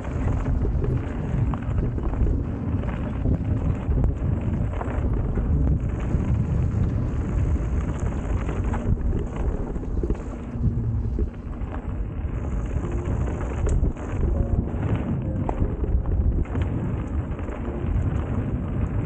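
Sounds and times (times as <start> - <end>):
bike clicks and rattles: 0.0 - 19.0
wind rumble on microphone: 0.0 - 19.0.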